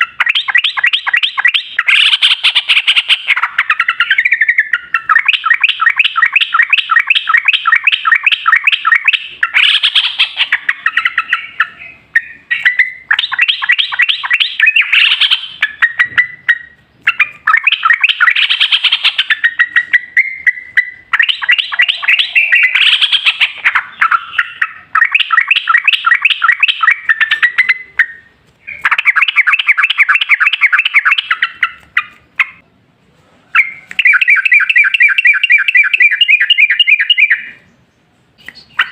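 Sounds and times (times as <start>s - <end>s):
bird chattering song: 0.0s - 32.7s, 33.6s - 38.9s.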